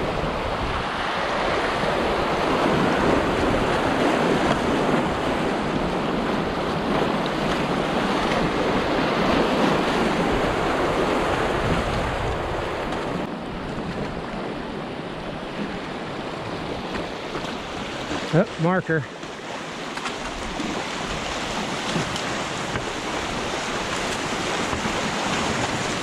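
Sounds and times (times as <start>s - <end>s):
floodwater rushing over riffles: 0.0s - 26.0s.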